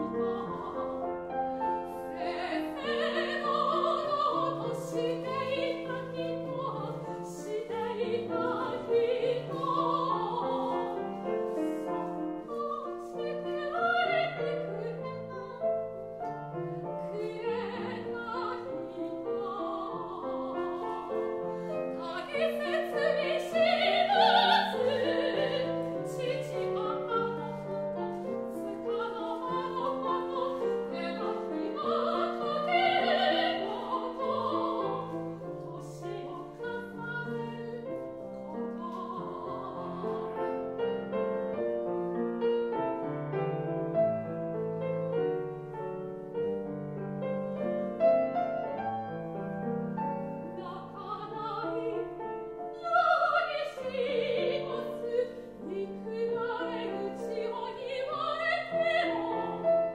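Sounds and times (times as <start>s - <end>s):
soprano singing with vibrato: 0.0s - 41.4s, 50.1s - 59.9s
piano accompaniment: 0.0s - 59.9s.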